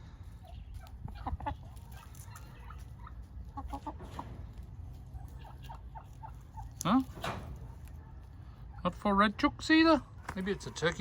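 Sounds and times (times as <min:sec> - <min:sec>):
hens clucking: 0:00.2 - 0:11.0.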